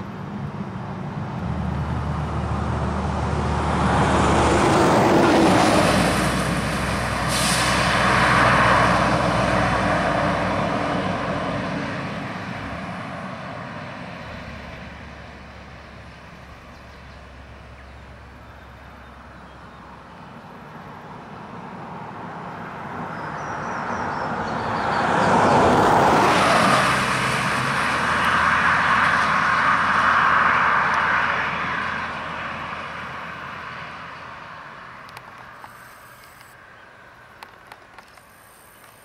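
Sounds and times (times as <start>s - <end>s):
vehicle driving past: 1.2s - 20.0s, 21.6s - 36.5s.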